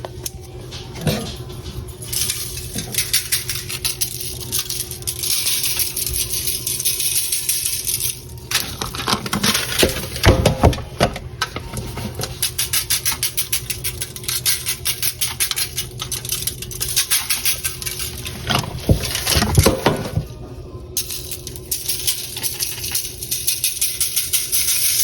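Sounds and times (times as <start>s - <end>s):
seasoning shaker rattling: 1.4s - 10.6s, 11.6s - 19.9s, 21.0s - 25.0s.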